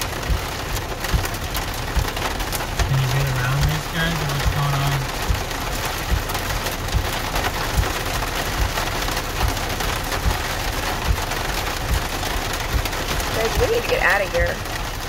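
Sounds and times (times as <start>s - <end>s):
rain on car roof: 0.0s - 15.0s
sharp knocks of raindrops: 0.0s - 15.0s.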